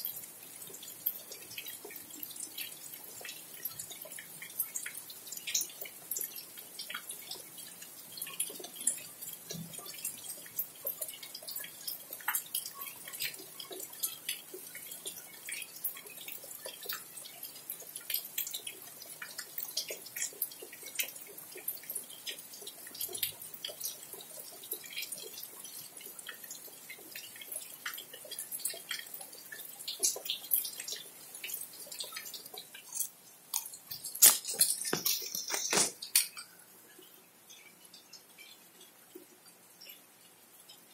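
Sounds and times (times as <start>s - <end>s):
faint hiss of rain: 0.0s - 40.9s
rain dripping: 0.0s - 40.9s.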